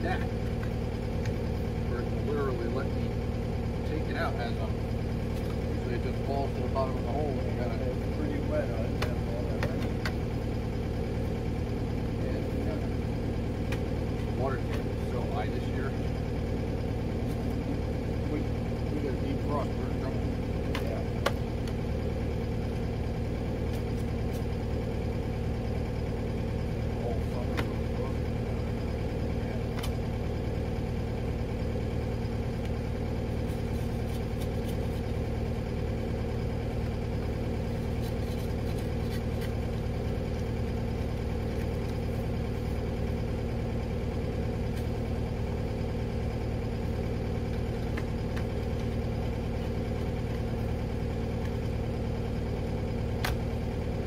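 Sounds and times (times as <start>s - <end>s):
skid steer engine idling: 0.0s - 54.0s.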